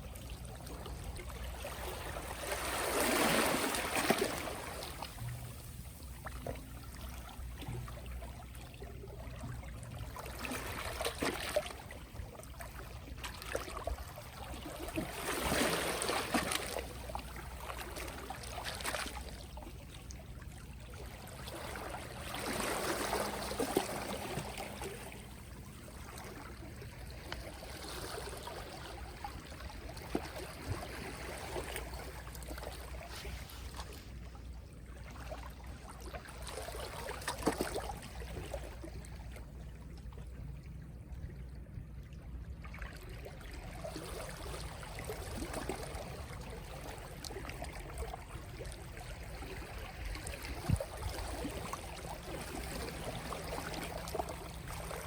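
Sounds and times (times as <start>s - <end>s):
small waves lapping on shore: 0.0s - 55.0s.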